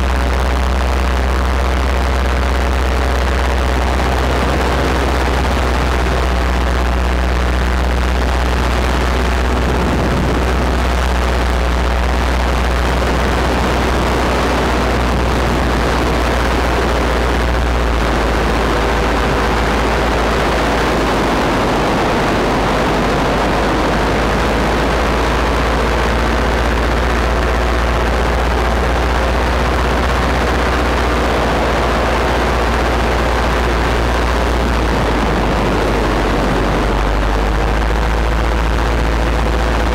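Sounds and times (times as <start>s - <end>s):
paramotor engine droning: 0.0s - 39.9s
rushing wind: 0.0s - 39.9s.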